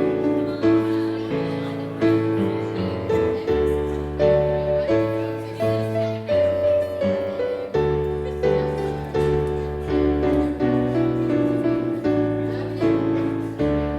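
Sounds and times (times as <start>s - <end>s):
piano playing slow chords: 0.0s - 13.9s.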